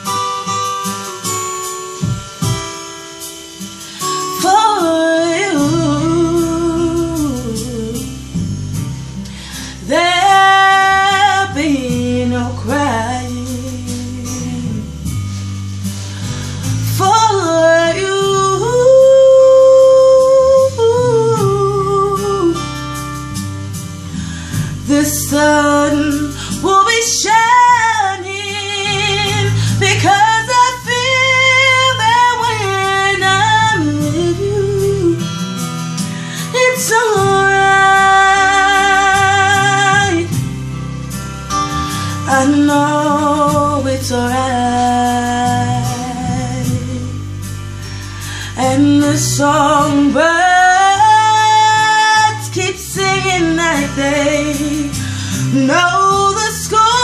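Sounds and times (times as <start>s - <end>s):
guitar accompaniment: 0.0s - 57.0s
woman singing a slow ballad: 0.0s - 57.0s.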